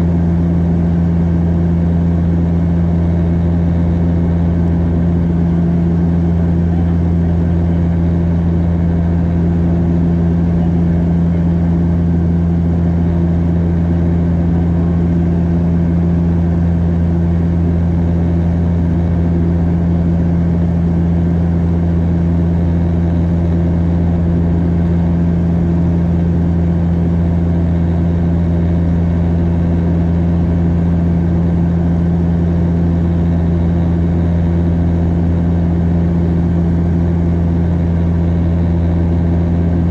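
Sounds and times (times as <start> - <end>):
propeller drone in cabin: 0.0 - 39.9.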